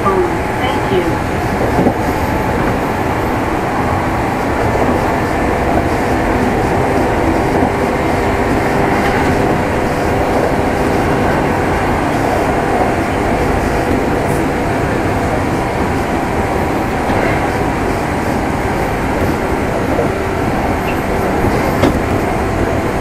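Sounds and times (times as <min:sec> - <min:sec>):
traction motor hum: 0:00.0 - 0:23.0
train wheels on rail: 0:00.0 - 0:23.0.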